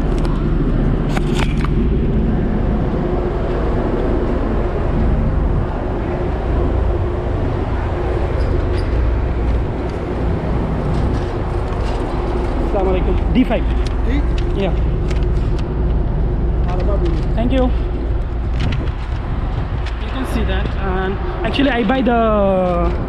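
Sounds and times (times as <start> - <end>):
train engine rumbling: 0.0 - 23.0.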